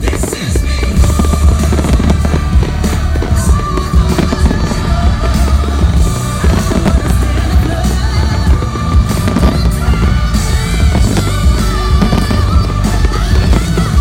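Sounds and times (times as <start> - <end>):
fireworks bangs and crackles: 0.0 - 14.0
loud music with heavy bass: 0.0 - 14.0.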